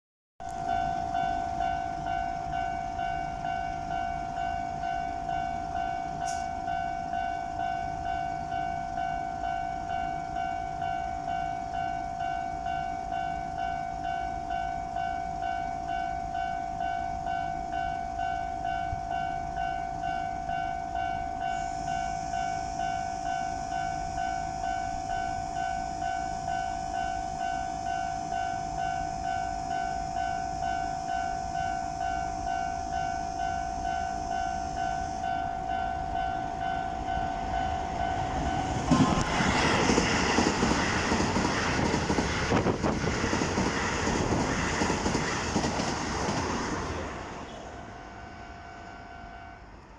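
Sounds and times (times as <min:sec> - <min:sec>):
level-crossing alarm bell ringing: 0:00.5 - 0:40.6, 0:47.0 - 0:49.8.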